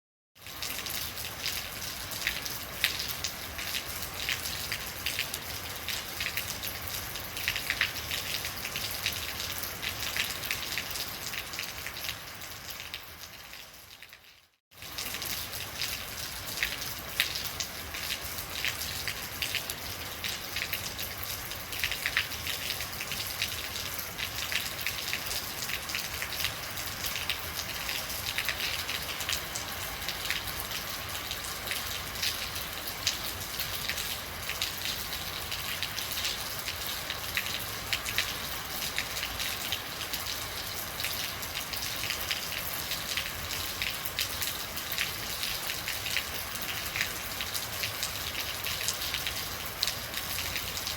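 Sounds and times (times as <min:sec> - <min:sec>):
rain on a hard surface: 0:00.4 - 0:50.9.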